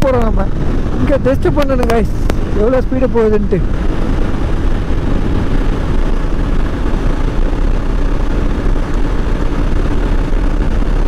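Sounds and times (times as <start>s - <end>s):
motorcycle engine at high speed: 0.0s - 11.0s
wind rush on microphone: 0.0s - 11.0s.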